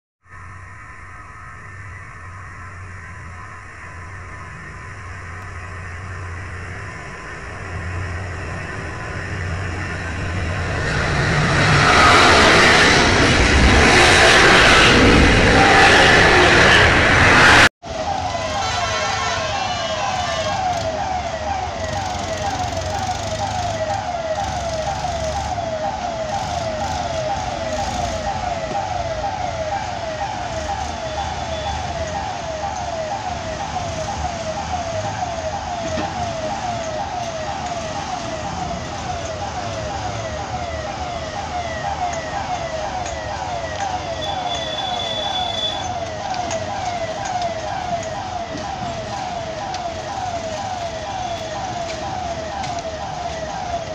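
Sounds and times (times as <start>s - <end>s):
electronic warning siren: 0.2s - 53.9s.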